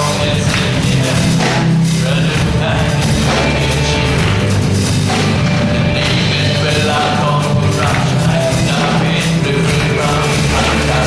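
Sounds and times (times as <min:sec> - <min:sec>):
band playing upbeat rock song: 0:00.0 - 0:11.0.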